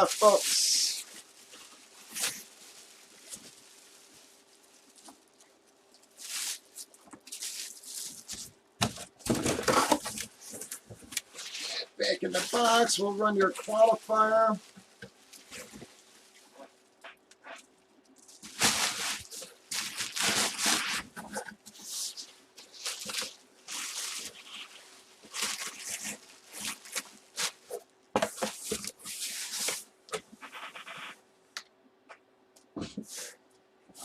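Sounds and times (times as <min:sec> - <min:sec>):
plastic bag crinkling: 0:00.0 - 0:31.1.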